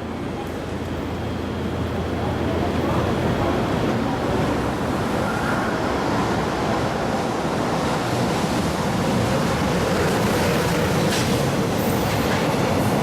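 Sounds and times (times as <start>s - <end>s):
train rumbling on tracks: 0.0s - 13.0s.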